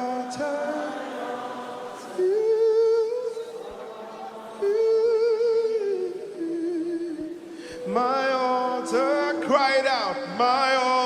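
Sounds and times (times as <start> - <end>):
voices singing worship song: 0.0 - 11.0.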